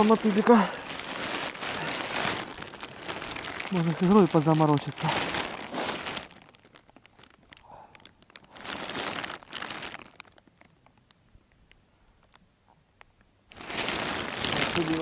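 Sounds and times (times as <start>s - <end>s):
soft crunching and rustling: 0.0s - 15.0s.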